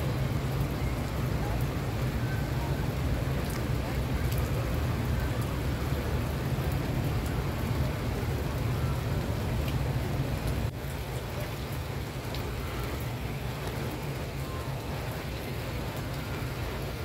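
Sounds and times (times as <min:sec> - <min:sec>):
rain splashing on stone pavement: 0:00.0 - 0:17.0.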